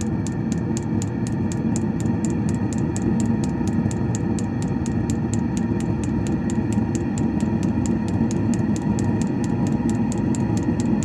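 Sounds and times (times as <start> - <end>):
fuel pump ticking: 0.0 - 11.0
heater low rumble: 0.0 - 11.0.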